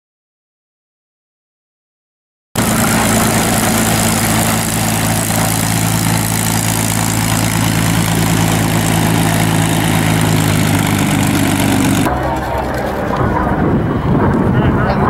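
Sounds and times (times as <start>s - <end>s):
propeller aircraft engine droning: 2.6s - 15.0s.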